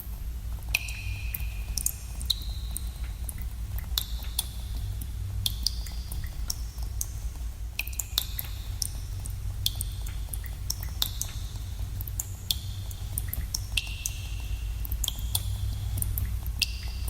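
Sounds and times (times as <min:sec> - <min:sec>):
steady low rumble: 0:00.0 - 0:17.0
water drops plinking in cave: 0:00.7 - 0:17.0.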